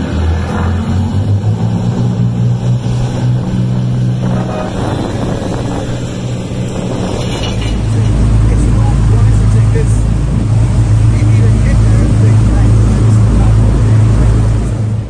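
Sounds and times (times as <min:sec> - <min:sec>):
boat engines running: 0:00.0 - 0:15.0
waves splashing and rushing: 0:00.0 - 0:15.0
wind on microphone: 0:00.0 - 0:15.0.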